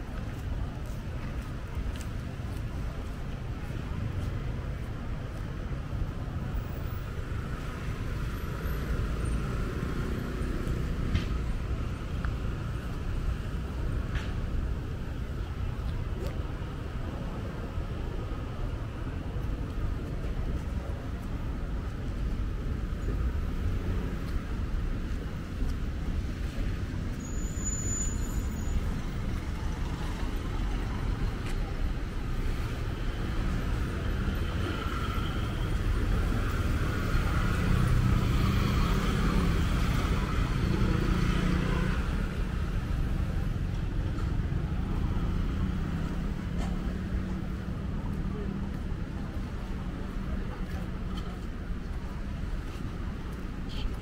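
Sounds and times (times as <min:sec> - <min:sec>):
passing cars rumbling: 0:04.7 - 0:54.0.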